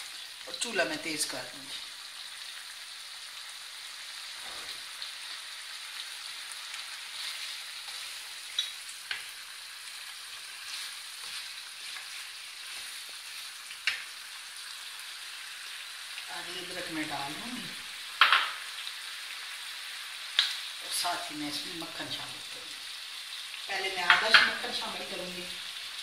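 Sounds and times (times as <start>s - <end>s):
chicken sizzling in frying pan: 0.0s - 26.0s.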